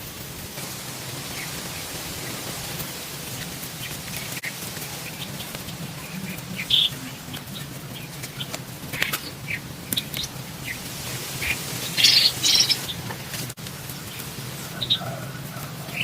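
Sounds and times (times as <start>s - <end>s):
birds chirping: 0.0s - 16.0s
steady hiss: 0.0s - 16.0s.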